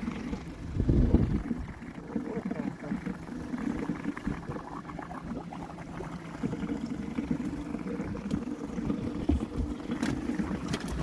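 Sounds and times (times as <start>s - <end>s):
boat engine low hum: 0.0s - 11.0s
water noise: 0.0s - 11.0s.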